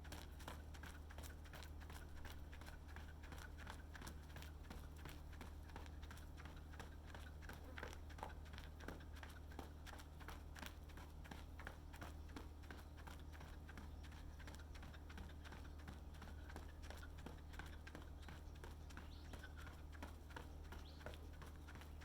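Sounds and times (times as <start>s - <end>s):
constant low rumble: 0.0s - 22.0s.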